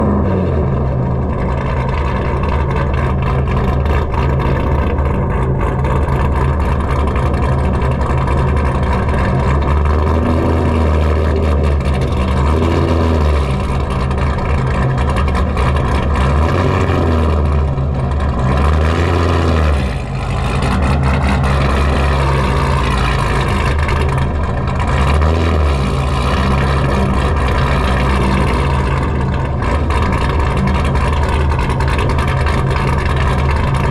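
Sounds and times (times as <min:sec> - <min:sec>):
car engine choppy idle: 0:00.0 - 0:33.9.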